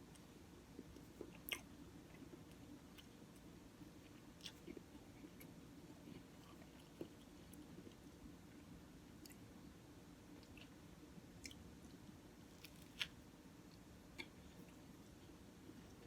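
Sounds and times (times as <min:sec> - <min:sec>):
faint chewing of sandwich: 0:00.1 - 0:16.0.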